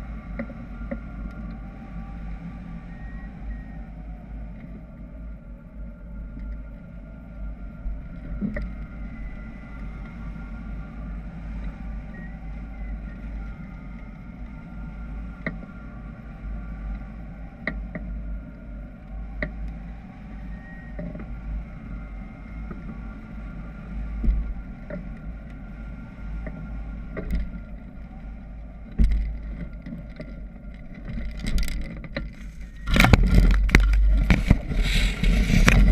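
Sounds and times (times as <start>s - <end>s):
airflow rushing over microphone: 0.0s - 35.9s.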